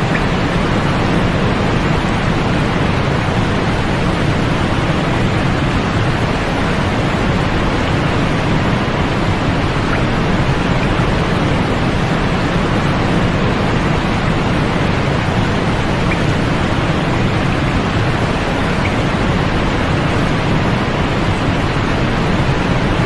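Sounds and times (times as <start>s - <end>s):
white noise hiss: 0.0s - 23.0s.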